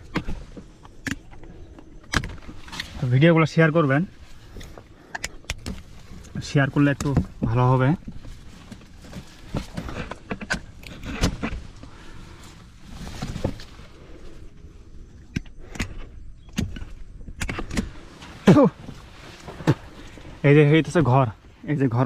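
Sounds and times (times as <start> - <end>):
hands rustling bamboo cage: 0.0 - 21.4.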